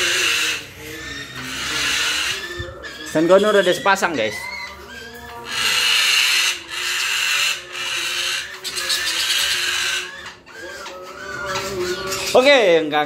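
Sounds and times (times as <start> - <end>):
parrots screeching: 0.0 - 13.0.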